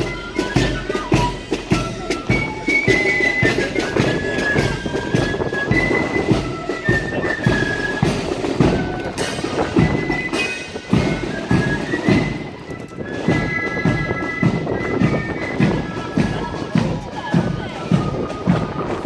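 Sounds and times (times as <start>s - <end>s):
bagpipes holding high notes: 0.0s - 19.0s.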